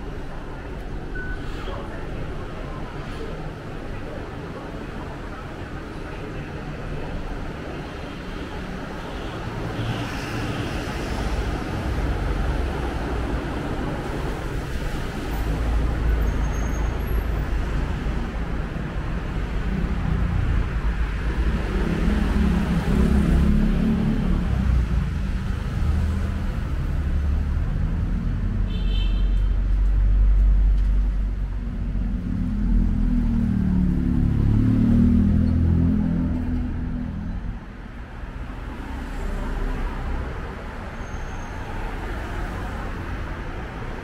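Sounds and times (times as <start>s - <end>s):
vehicle engines rumbling: 0.0s - 44.0s.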